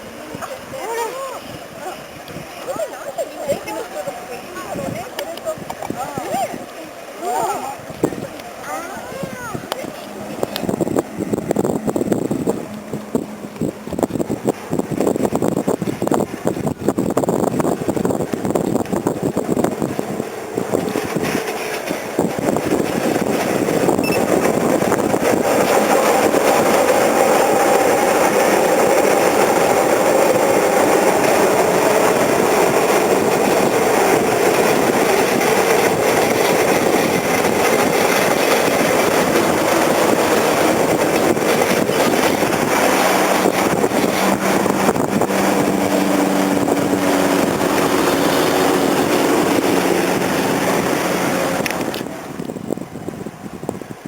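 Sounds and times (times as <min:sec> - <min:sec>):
steam train rumbling past: 0:00.0 - 0:54.0.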